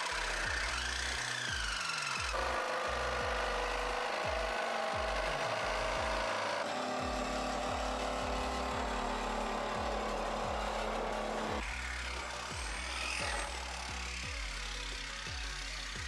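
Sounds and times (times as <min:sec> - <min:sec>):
reciprocating saw cutting sheet metal: 0:00.0 - 0:16.0.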